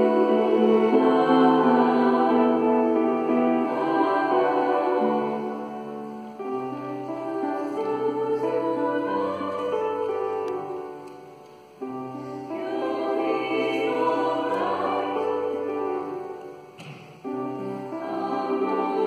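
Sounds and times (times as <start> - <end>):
female choir singing in harmony: 0.0 - 19.0.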